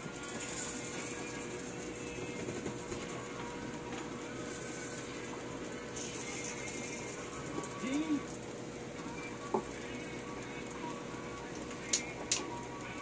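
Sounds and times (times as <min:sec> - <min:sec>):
oven fan and motor humming: 0:00.0 - 0:13.0.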